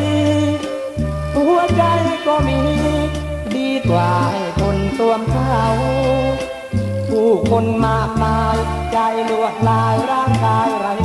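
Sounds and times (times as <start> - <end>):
band playing a song: 0.0 - 11.0.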